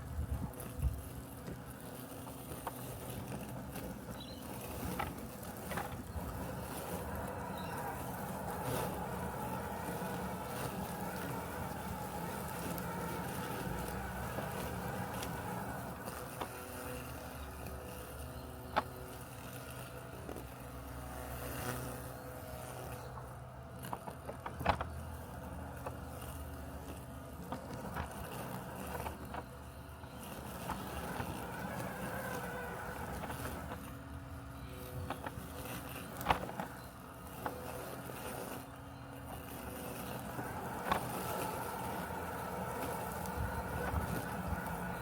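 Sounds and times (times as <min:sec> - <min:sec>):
robotic lawn mower humming: 0:00.0 - 0:45.0.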